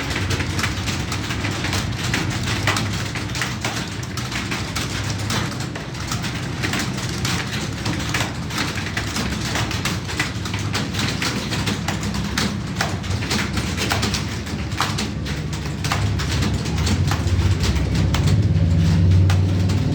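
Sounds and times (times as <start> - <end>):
keyboard typing: 0.0 - 19.9.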